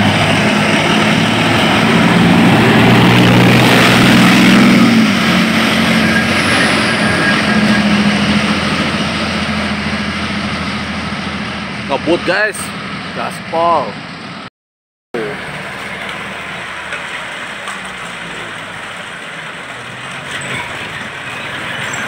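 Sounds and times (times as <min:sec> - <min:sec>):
tank track noise: 0:00.0 - 0:14.4, 0:15.2 - 0:22.0
tank diesel engine drone: 0:00.0 - 0:14.5, 0:15.2 - 0:22.0.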